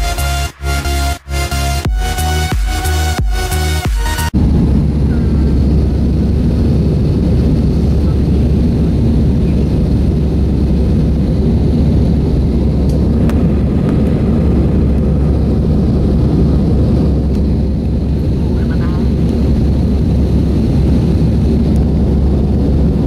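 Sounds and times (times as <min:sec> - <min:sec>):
airliner engine rumble in cabin: 0:04.3 - 0:23.0.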